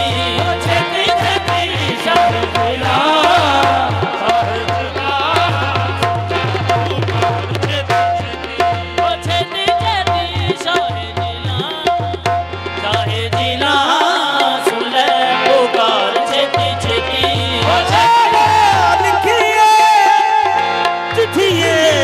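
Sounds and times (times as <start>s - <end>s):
tabla and drums: 0.0s - 22.0s.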